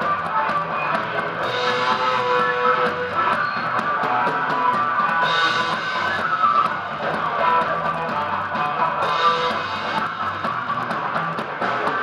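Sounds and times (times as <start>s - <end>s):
electric guitar: 0.0s - 12.0s
live rock band playing: 0.0s - 12.0s.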